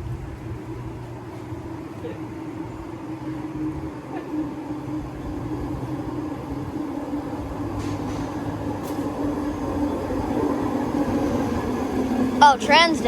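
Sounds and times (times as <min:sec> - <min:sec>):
train diesel engine rumbling: 0:00.0 - 0:13.0.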